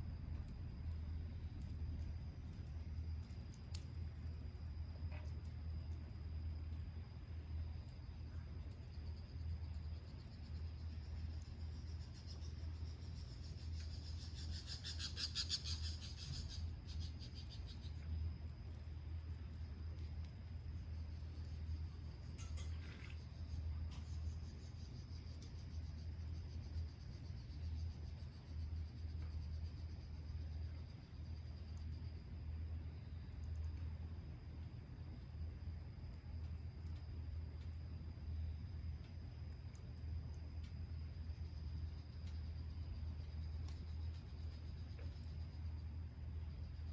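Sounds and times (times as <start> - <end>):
pulsing insect trill: 0.0 - 37.4, 38.1 - 46.9
insects chirring: 0.0 - 46.9.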